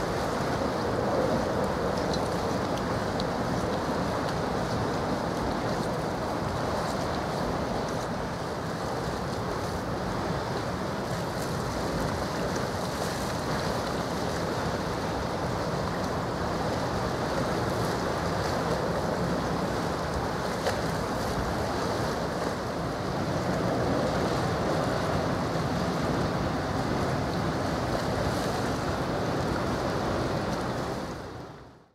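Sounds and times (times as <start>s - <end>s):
sea water washing: 0.0s - 31.7s
wind noise on microphone: 0.0s - 31.8s.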